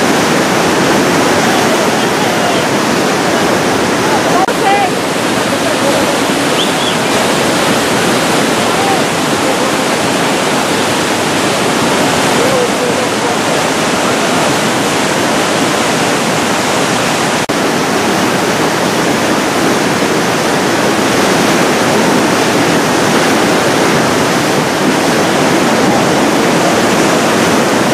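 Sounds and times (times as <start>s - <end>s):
rushing flood torrent roar: 0.0s - 27.9s.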